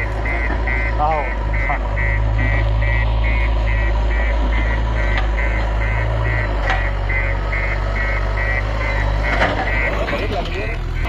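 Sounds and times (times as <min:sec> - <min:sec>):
diesel engine droning: 0:00.0 - 0:11.0
reversing alarm beeping: 0:00.0 - 0:11.0.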